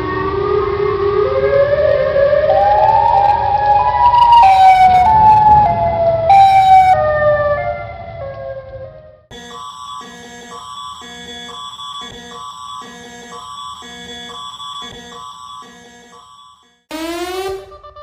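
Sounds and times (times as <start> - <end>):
siren wailing: 0.0 - 18.0.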